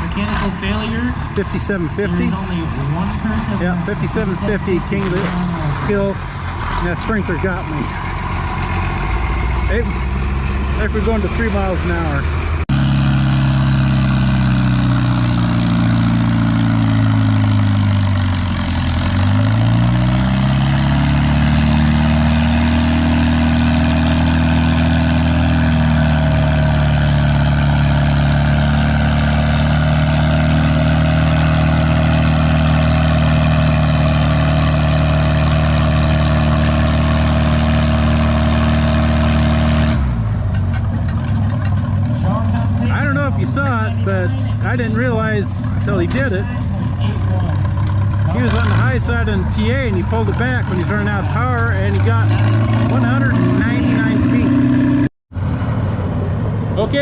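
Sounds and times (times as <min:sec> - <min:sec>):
tractor engine under full load: 0:00.0 - 0:57.0.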